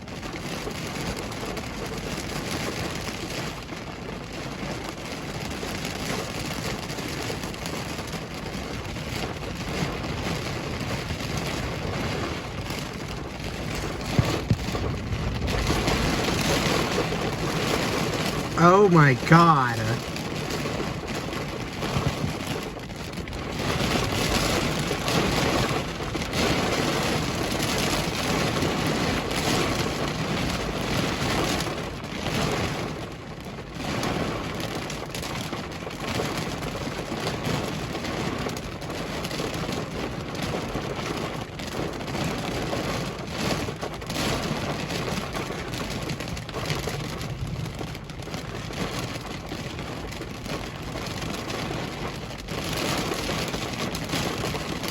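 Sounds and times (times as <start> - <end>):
heavy rain pounding on car: 0.0 - 54.9.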